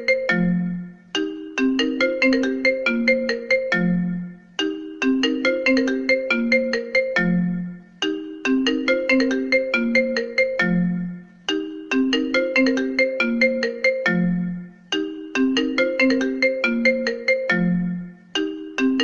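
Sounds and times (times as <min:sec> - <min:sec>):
phone ringtone melody: 0:00.0 - 0:19.0.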